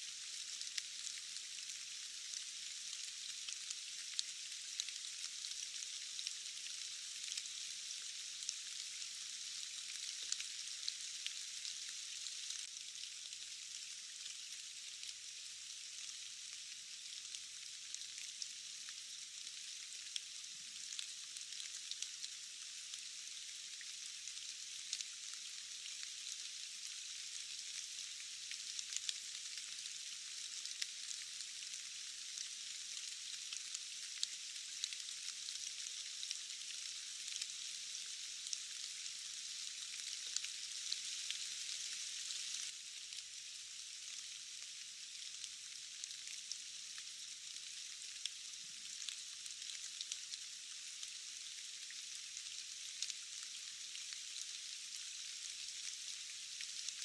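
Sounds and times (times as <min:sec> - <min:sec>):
rain hiss with drop ticks: 0:00.0 - 0:57.0.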